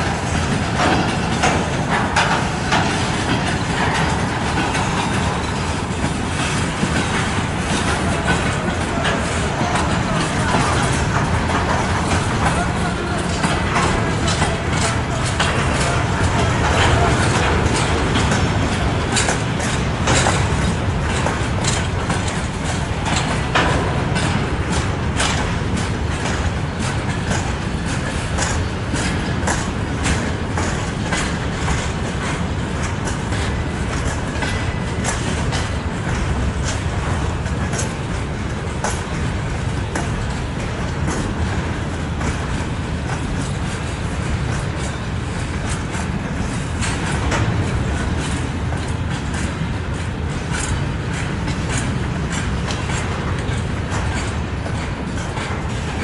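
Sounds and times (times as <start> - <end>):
train wheels rumbling on rails: 0.0 - 56.0
wheels clickety-clack: 0.0 - 56.0.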